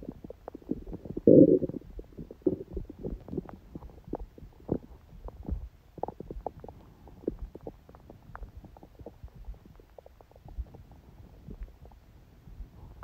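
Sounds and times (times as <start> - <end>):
stomach gurgling: 0.0 - 13.0.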